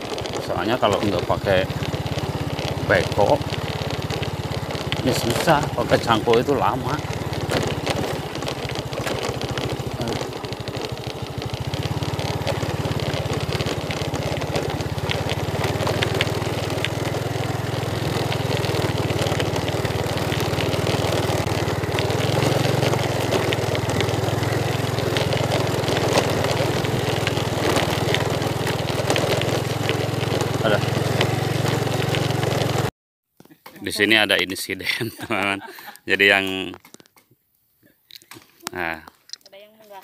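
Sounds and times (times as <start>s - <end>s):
bike rattling over ground: 0.0s - 32.9s
motorcycle engine running: 0.0s - 32.9s.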